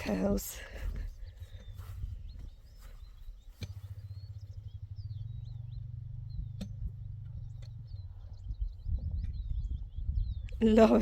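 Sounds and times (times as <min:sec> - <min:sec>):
low engine rumble: 0:00.0 - 0:11.0
small birds chirping: 0:00.0 - 0:11.0.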